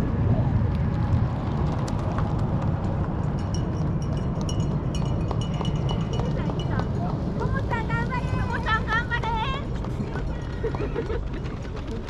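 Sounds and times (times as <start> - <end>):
low rumble: 0.0 - 12.0
runners' footfalls slapping on road: 0.5 - 12.0.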